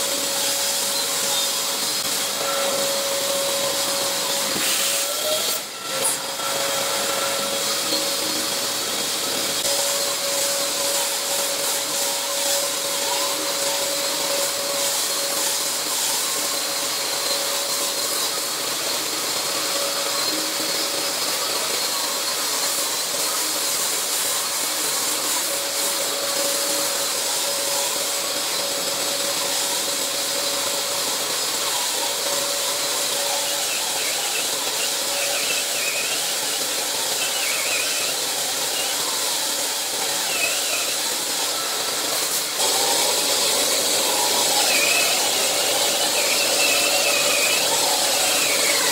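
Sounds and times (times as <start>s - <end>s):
drywall sander motor whine: 0.0s - 48.9s
sanding pad hissing: 0.0s - 48.9s.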